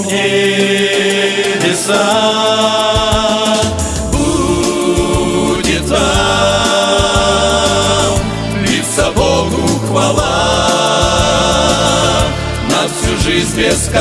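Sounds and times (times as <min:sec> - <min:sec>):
instrumental accompaniment with bass: 0:00.0 - 0:14.0
men's choir singing a hymn: 0:00.0 - 0:14.0.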